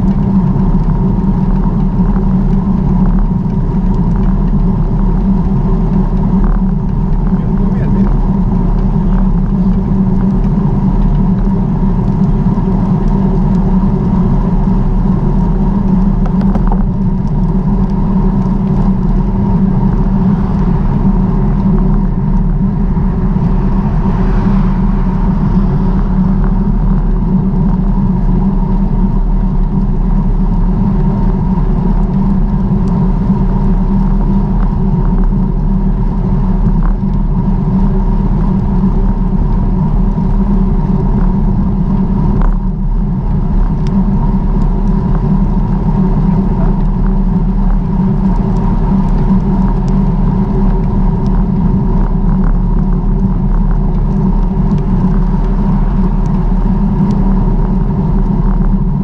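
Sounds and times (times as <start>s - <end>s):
low droning rumble: 0.0s - 59.0s.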